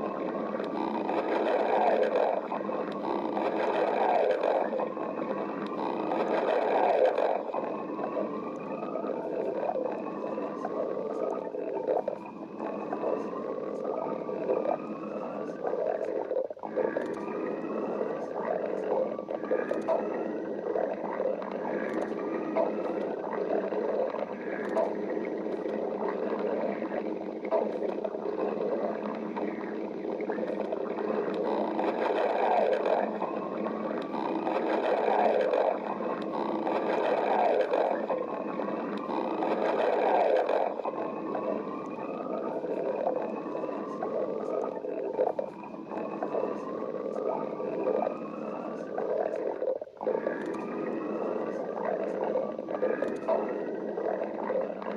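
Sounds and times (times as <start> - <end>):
stomach growling: 0.0 - 54.9.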